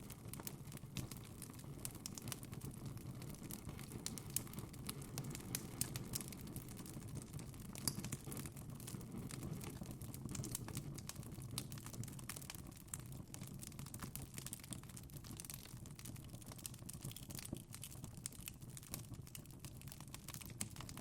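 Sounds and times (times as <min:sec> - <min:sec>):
fire popping: 0:00.0 - 0:21.0
low rumble of flames: 0:00.0 - 0:21.0
wood fire crackling: 0:00.0 - 0:21.0.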